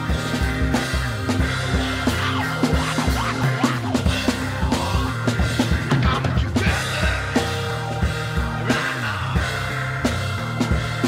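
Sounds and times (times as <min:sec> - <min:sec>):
drum kit beat: 0:00.0 - 0:11.0
electric bass low notes: 0:00.0 - 0:11.0.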